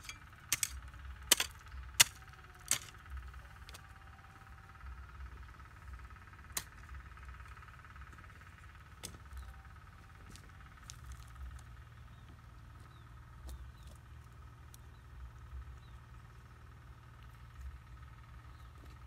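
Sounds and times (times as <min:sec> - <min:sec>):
faint high hum: 0:00.0 - 0:19.0.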